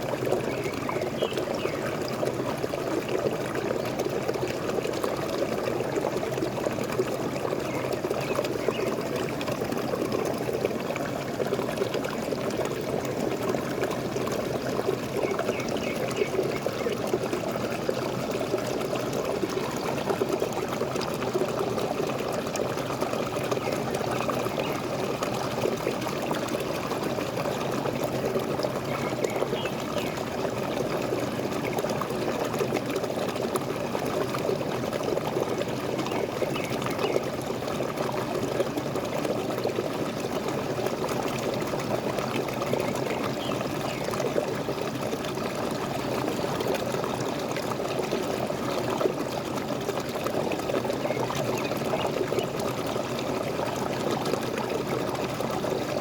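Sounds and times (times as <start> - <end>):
waterfall: 0.0 - 56.0.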